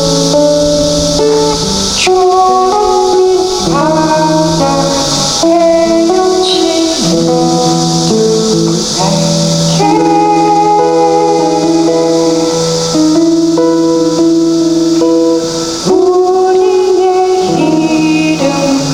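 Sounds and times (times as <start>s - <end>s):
live band melody notes: 0.0s - 18.9s.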